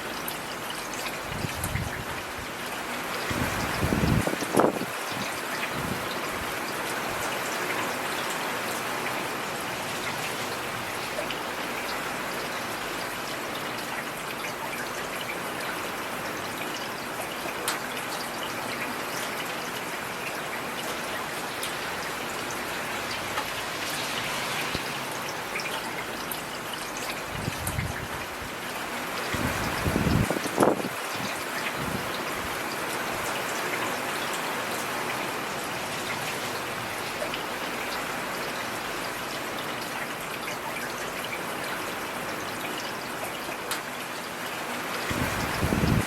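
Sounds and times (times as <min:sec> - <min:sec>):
heavy rain: 0:00.0 - 0:46.0.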